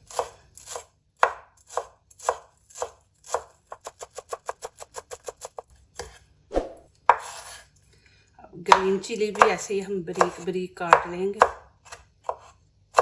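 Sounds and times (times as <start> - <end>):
knife chopping herbs on cutting board: 0.0 - 6.2, 8.7 - 13.0.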